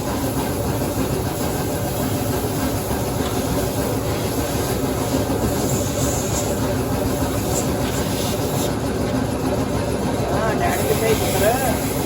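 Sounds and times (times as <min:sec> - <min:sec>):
machine running steadily: 0:00.0 - 0:12.0.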